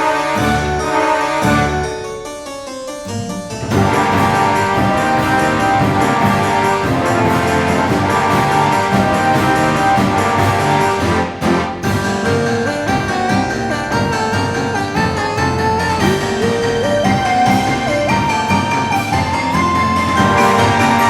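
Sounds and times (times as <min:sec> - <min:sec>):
background music with steady beat: 0:03.6 - 0:21.0.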